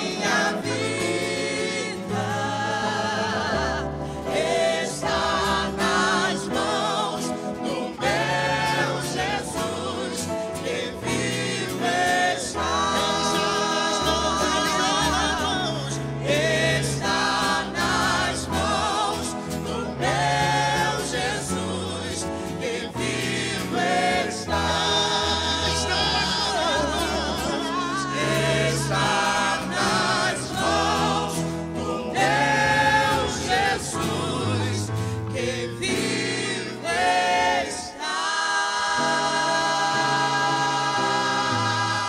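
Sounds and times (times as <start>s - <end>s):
gospel group singing in harmony: 0.0s - 42.0s
guitar accompaniment: 0.0s - 42.0s.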